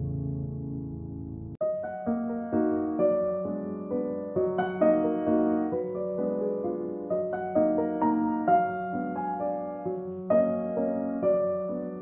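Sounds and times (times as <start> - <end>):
soft classical piano: 0.0 - 12.0.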